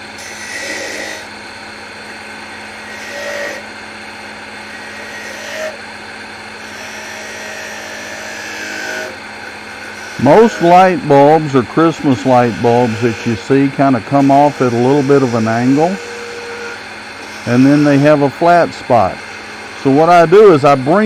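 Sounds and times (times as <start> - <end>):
turning tool cutting wood: 0.0 - 21.0
wood lathe motor hum: 0.0 - 21.0.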